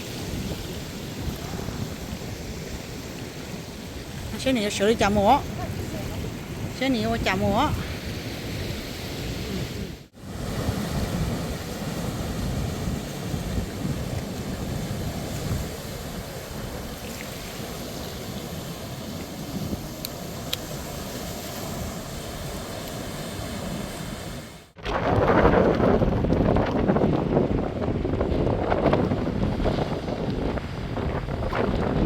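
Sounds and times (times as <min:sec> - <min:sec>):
waves rushing: 0:00.0 - 0:32.0
wind on microphone: 0:00.0 - 0:32.0.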